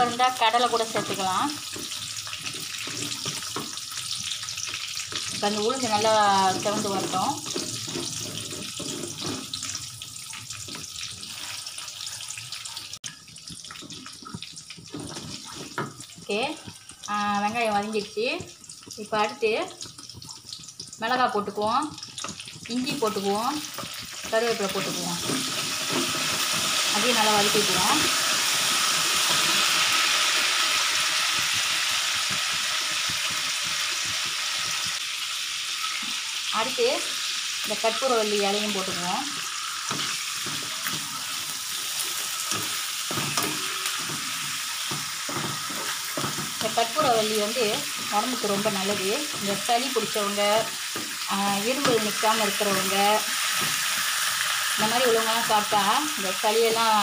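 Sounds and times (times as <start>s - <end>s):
spatula stirring in wok: 0.0s - 17.0s, 22.0s - 35.2s, 37.3s - 55.7s
onions sizzling in hot oil: 0.0s - 57.0s.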